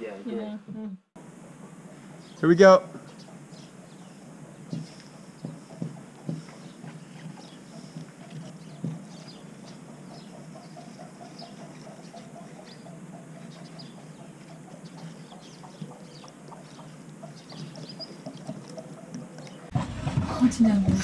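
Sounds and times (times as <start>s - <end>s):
birds chirping: 1.2s - 21.0s.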